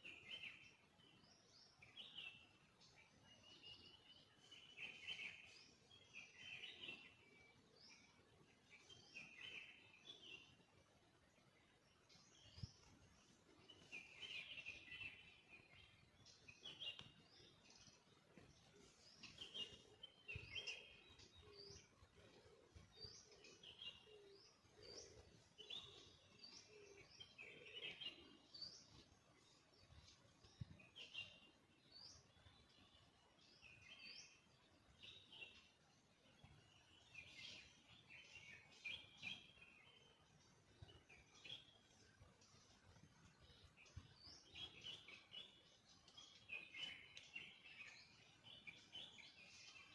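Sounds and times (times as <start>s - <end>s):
faint low bird calls: 0.0s - 49.9s.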